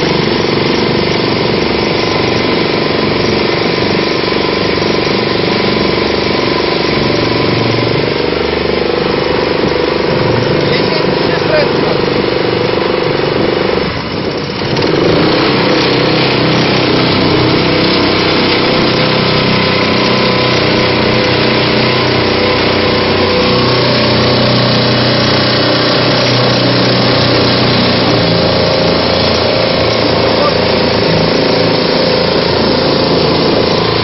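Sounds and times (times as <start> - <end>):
boat motor revving: 0.0 - 34.0.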